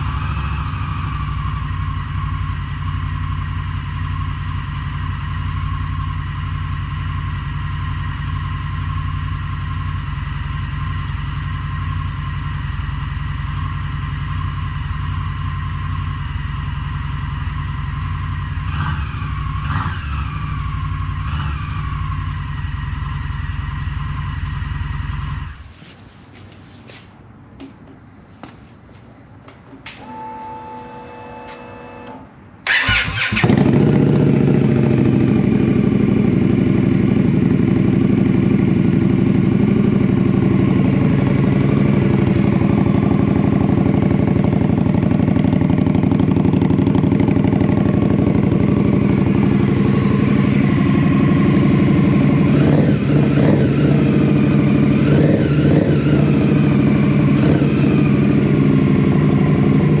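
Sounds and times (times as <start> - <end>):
motorcycle engine starting and idling: 0.0 - 26.4, 29.4 - 60.0.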